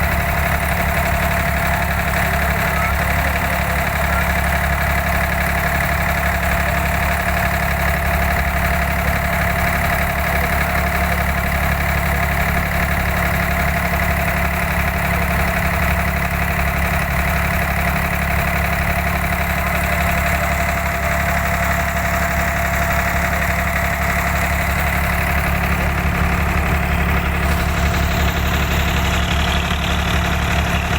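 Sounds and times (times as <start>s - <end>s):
constant steady tone: 0.0s - 29.6s
boat engine humming: 0.0s - 30.9s.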